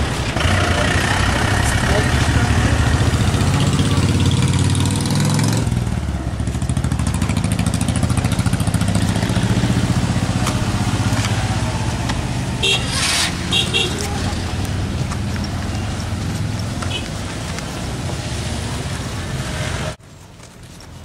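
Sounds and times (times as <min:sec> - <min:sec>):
vehicle engine throbbing: 0:00.0 - 0:18.2
road noise hiss: 0:00.0 - 0:21.0.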